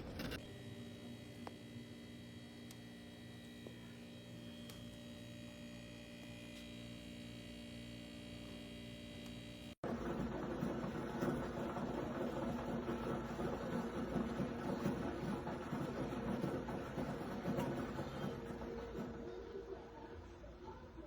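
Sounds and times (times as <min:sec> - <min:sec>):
water cooler electrical hum: 0:00.0 - 0:21.0.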